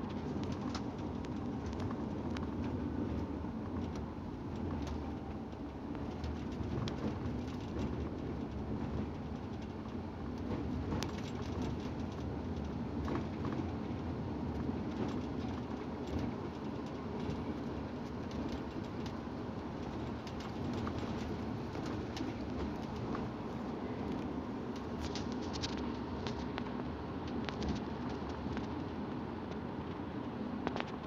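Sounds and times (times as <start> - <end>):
coach engine and tyres rumbling: 0.0 - 31.0.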